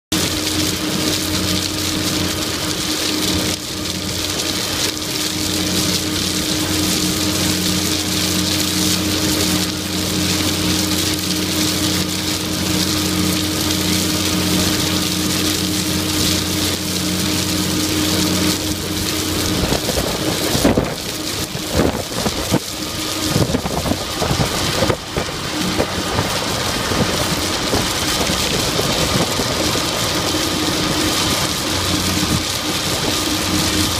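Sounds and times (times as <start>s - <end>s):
diesel engine droning: 0.1s - 33.9s
crushed stone pouring off conveyor: 0.2s - 33.9s.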